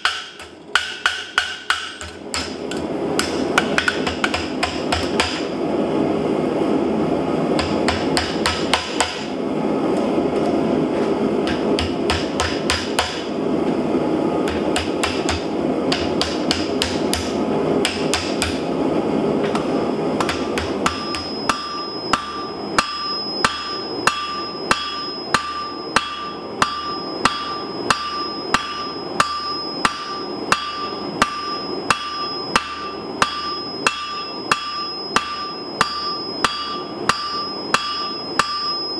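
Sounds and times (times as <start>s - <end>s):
hammer forging on ringing anvil: 0.0s - 5.6s, 7.6s - 9.3s, 11.4s - 13.3s, 14.4s - 18.7s, 20.2s - 38.9s
hammer striking hot steel: 0.0s - 5.6s, 7.6s - 9.4s, 11.4s - 13.4s, 14.4s - 18.7s, 19.5s - 38.9s.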